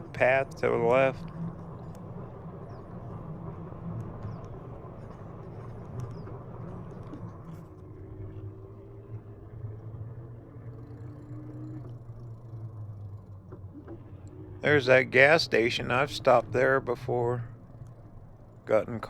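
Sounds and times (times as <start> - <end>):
e-bike riding on trail: 0.0 - 19.0
faint motor whine: 0.0 - 19.0
wind: 0.0 - 19.0.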